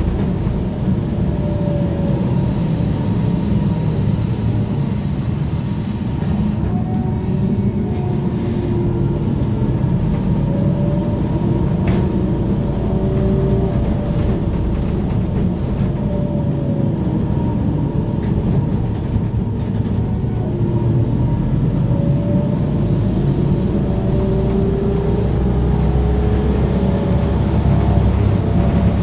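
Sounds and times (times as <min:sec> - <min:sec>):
trolleybus ride rumble: 0:00.0 - 0:29.0.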